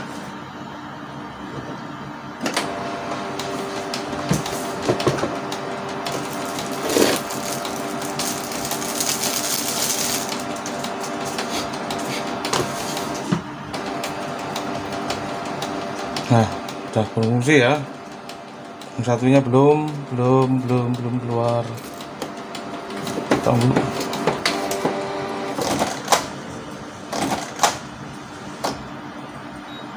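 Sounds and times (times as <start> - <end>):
printer motor whirring: 0.0 - 29.7.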